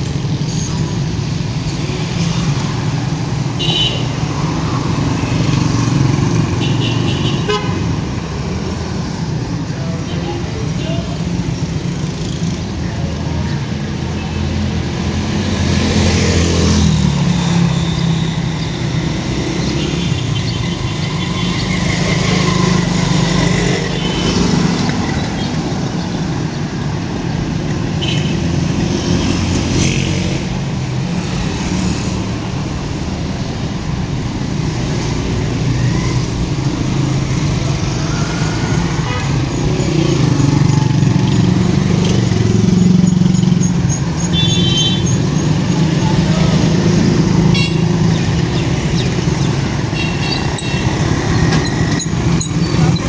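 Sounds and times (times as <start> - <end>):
traffic hum: 0.0 - 53.0
vehicle engines passing: 0.0 - 53.0.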